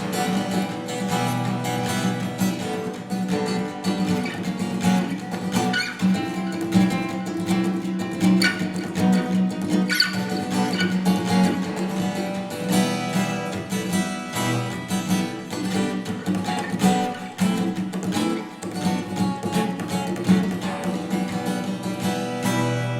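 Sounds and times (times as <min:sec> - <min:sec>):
acoustic guitar strummed: 0:00.0 - 0:22.9.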